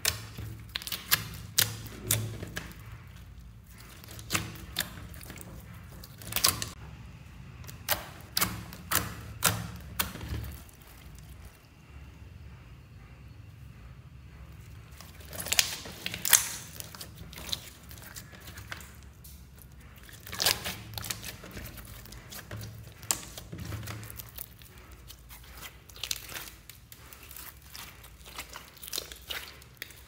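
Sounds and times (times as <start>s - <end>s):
slime wet squishes: 0.0s - 6.8s, 7.6s - 11.7s, 14.9s - 30.0s.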